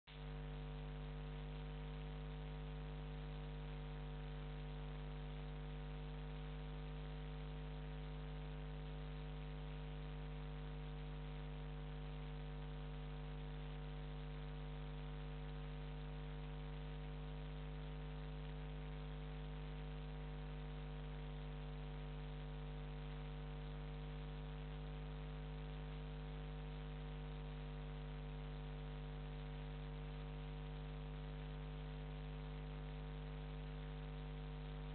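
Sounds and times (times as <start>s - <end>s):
electrical mains hum: 0.2s - 34.9s.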